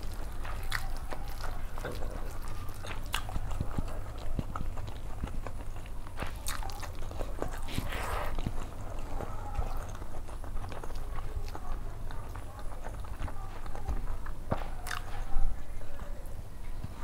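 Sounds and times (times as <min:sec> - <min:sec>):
mouth clicks and lip smacks: 0:00.0 - 0:15.4
chewing rice: 0:00.0 - 0:17.0
fingers mixing rice on plate: 0:00.0 - 0:17.0.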